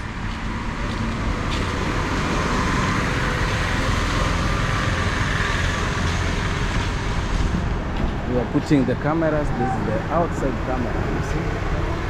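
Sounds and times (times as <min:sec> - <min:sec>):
road traffic rush: 0:00.0 - 0:12.0.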